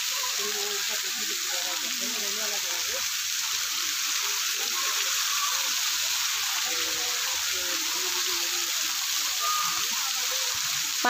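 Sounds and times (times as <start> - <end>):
faint voices: 0.0 - 11.0
fountain water hissing: 0.0 - 11.0.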